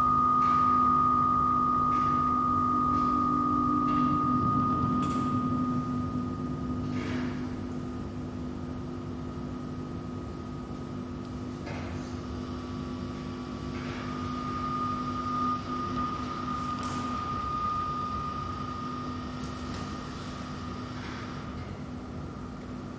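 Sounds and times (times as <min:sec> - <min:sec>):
droning hum with held tones: 0:00.0 - 0:22.9.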